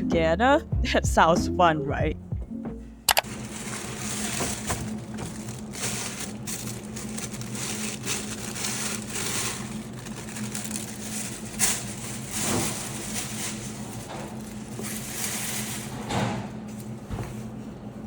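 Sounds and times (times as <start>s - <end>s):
steady low hum: 0.0s - 18.0s
packaging rustling and crinkling: 3.2s - 17.6s.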